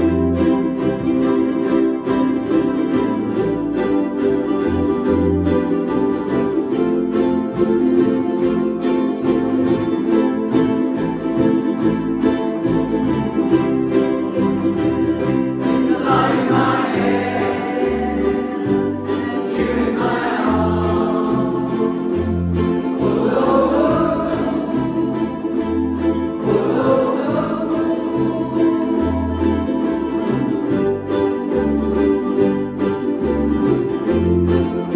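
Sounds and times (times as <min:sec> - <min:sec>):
bass line: 0:00.0 - 0:34.9
strummed acoustic strings: 0:00.0 - 0:34.9.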